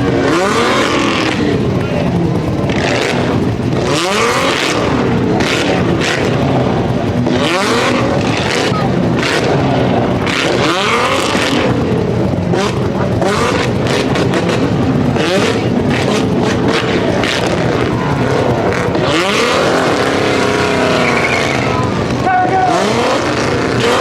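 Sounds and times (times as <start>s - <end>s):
car engine revving hard: 0.0s - 24.0s
exhaust pops and bangs: 0.0s - 24.0s.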